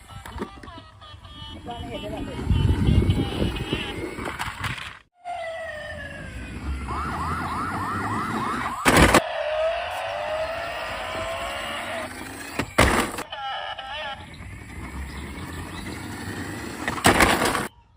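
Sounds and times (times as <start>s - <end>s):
electronic siren wailing: 1.8s - 4.3s, 5.2s - 17.0s.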